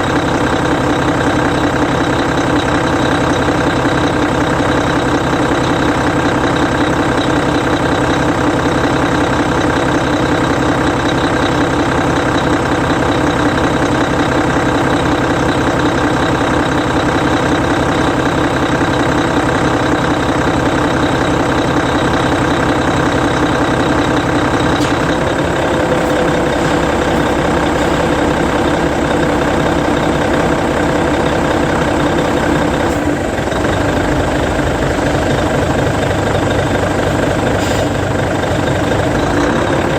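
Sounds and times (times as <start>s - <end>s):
diesel coach engine idling: 0.0s - 39.9s.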